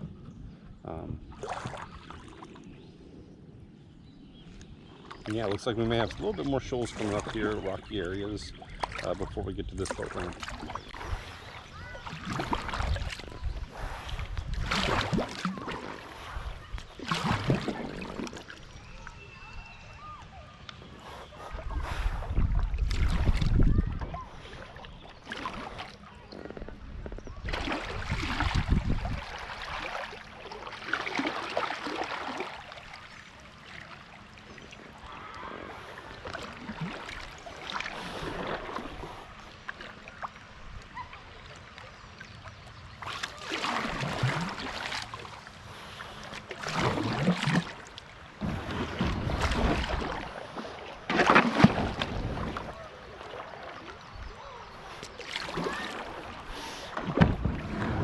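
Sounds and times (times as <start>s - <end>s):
paddle strokes splashing water: 1.3s - 2.8s, 4.9s - 20.0s, 20.7s - 58.0s.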